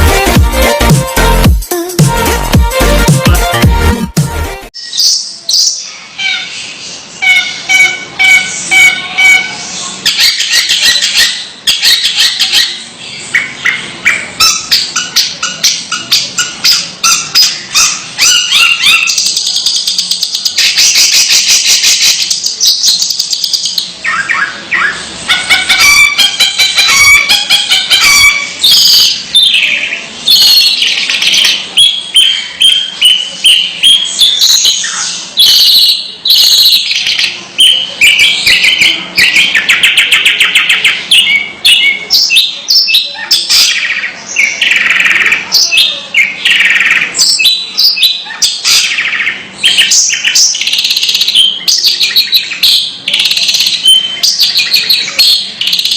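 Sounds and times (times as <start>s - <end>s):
bird chattering and trilling: 4.8s - 55.9s.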